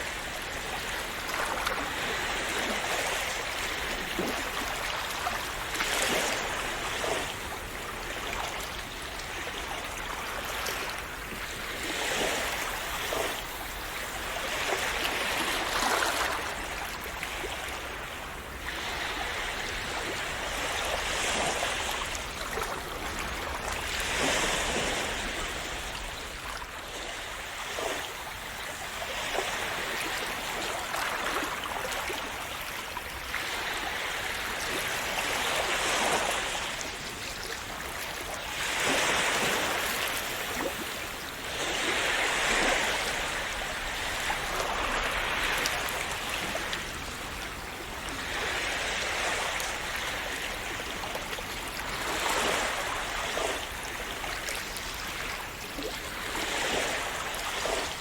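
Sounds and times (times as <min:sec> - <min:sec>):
sea waves splashing: 0:00.0 - 0:58.0.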